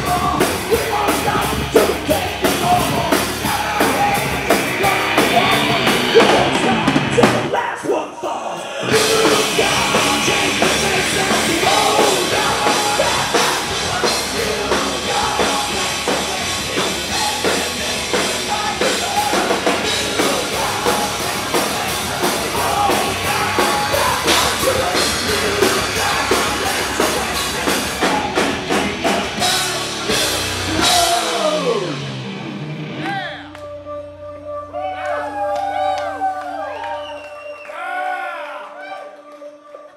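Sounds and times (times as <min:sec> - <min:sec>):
bass guitar: 0:00.0 - 0:07.6, 0:08.8 - 0:37.1
electric guitar: 0:00.0 - 0:07.6, 0:08.8 - 0:33.8
drum kit: 0:00.0 - 0:07.7, 0:08.8 - 0:33.5
person singing into microphone: 0:00.0 - 0:32.0.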